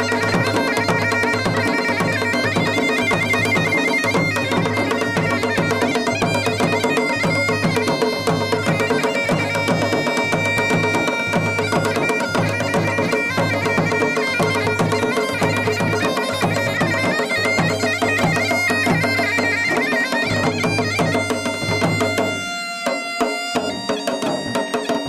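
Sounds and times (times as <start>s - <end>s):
drums beating quick rhythm: 0.0s - 25.0s
reed pipe melody: 0.0s - 25.0s.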